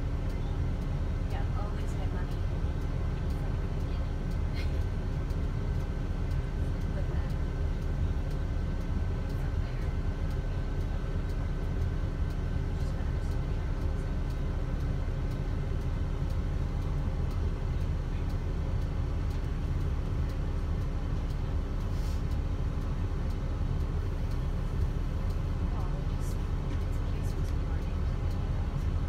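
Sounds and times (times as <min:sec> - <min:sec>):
coach bus engine rumble: 0:00.0 - 0:29.0
road noise: 0:00.0 - 0:29.0.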